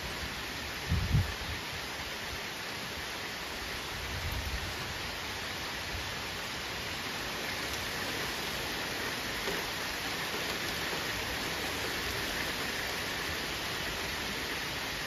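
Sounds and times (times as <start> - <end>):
rain falling on trees: 0.0 - 15.0.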